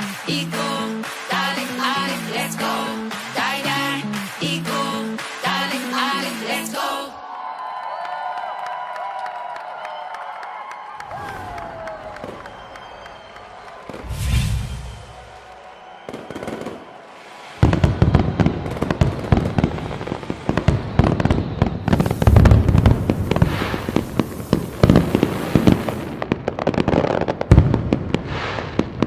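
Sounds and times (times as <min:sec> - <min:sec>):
fireworks bangs and crackles: 0:00.0 - 0:05.8, 0:11.1 - 0:29.0.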